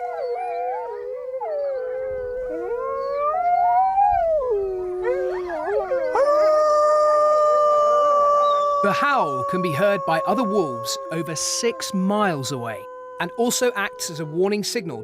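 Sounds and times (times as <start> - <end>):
wolves howling in chorus: 0.0 - 15.0.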